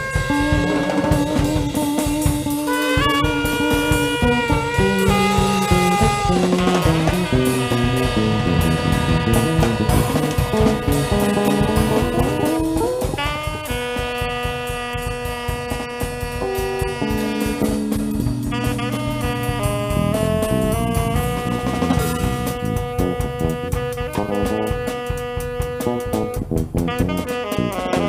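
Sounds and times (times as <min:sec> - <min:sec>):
bass line: 0:00.0 - 0:28.0
drums: 0:00.0 - 0:28.0
horn playing long notes: 0:00.0 - 0:28.0.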